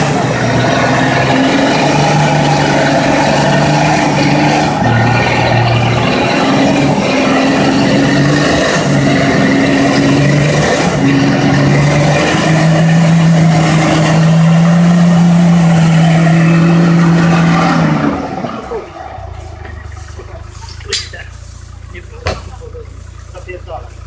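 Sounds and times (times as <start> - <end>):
off-road vehicle engine revving hard: 0.0 - 24.0.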